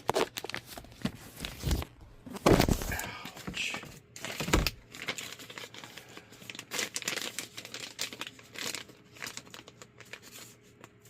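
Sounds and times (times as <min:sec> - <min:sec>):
packaging crinkling: 0:00.0 - 0:03.0, 0:04.2 - 0:11.0.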